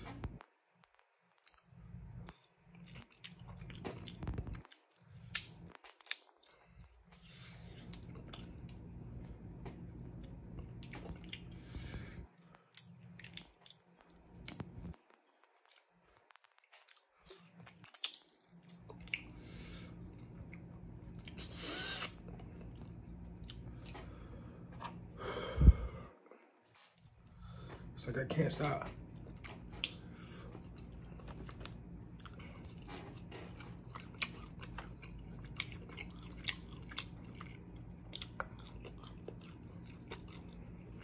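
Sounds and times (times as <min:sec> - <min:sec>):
chewing: 0:01.4 - 0:25.0, 0:28.6 - 0:41.0.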